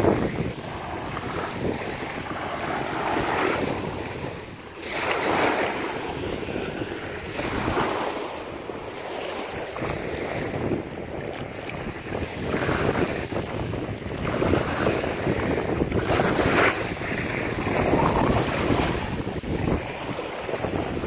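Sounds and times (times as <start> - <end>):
small waves washing on sand: 0.0 - 21.0
wind buffeting microphone: 0.0 - 21.0.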